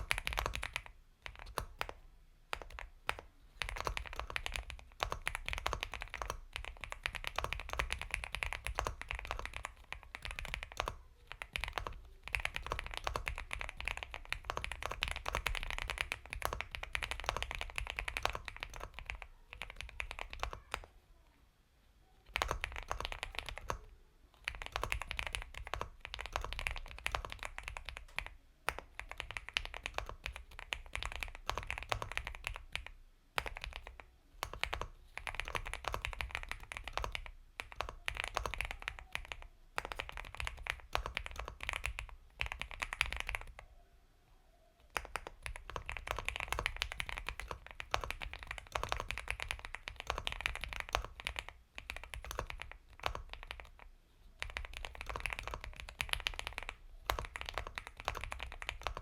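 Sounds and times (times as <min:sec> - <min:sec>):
mechanical keyboard typing: 0:00.0 - 0:20.9, 0:22.2 - 0:43.6, 0:44.9 - 0:59.0.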